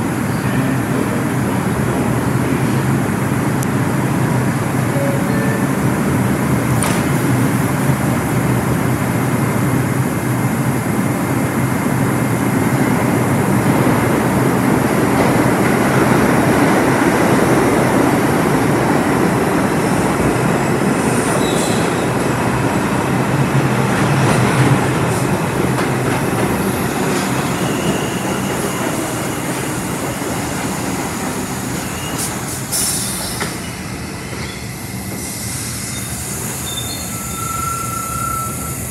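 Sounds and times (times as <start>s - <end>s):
subway train rumbling past: 0.0s - 38.9s.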